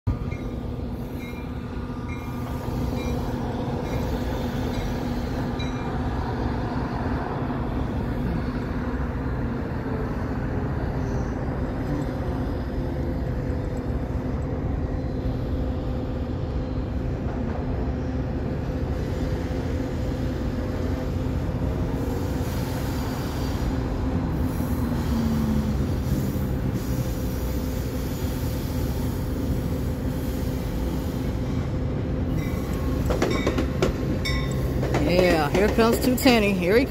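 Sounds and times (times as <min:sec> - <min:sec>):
train wheels rumbling on rails: 0:00.1 - 0:36.9.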